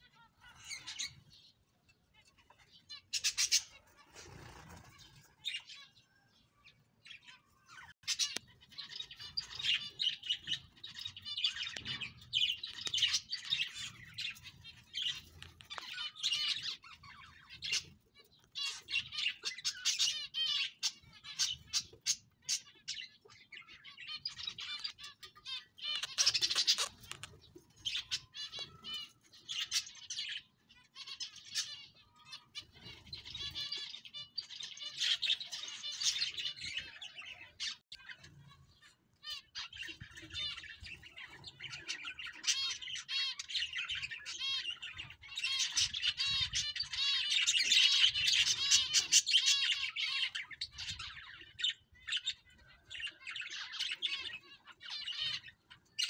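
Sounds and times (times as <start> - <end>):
small birds chirping and chattering: 0.0 - 56.0.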